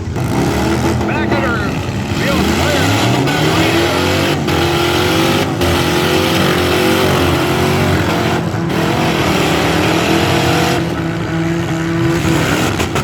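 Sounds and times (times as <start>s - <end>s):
car engines revving loudly: 0.0s - 13.0s.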